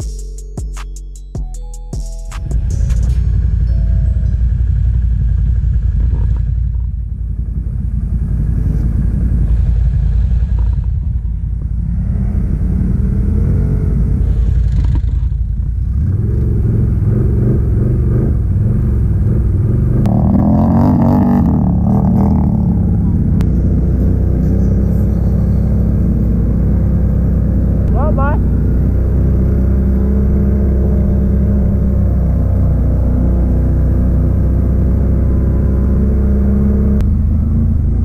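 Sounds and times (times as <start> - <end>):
atv engine rumbling: 2.5 - 38.0.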